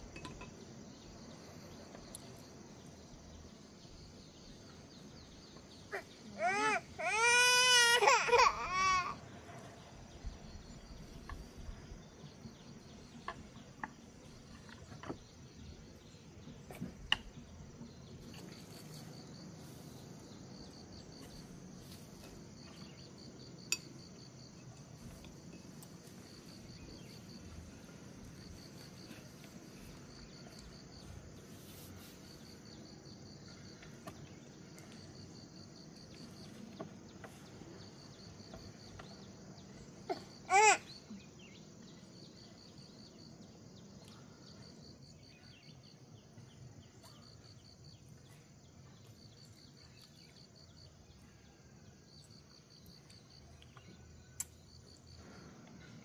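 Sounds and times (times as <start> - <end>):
insects chirping: 0.0 - 56.0
low steady background noise: 0.0 - 56.0.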